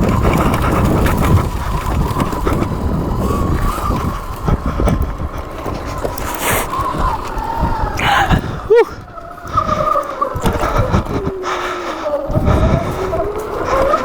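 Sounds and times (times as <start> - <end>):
bike knocks and rattles: 0.0 - 11.4
electric motor whine: 0.0 - 14.0
heavy rumbling noise: 0.0 - 14.0.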